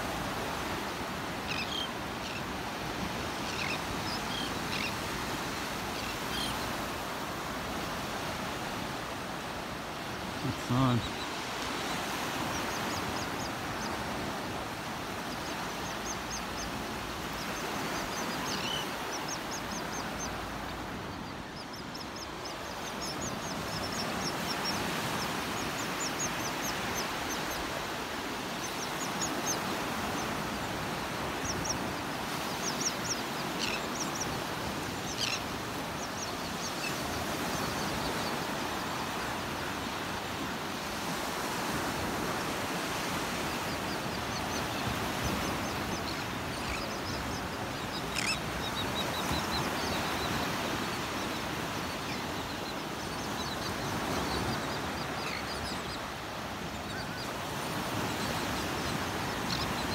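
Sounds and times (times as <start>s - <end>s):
surf washing on beach: 0.0s - 59.9s
seabird calls: 0.1s - 59.9s.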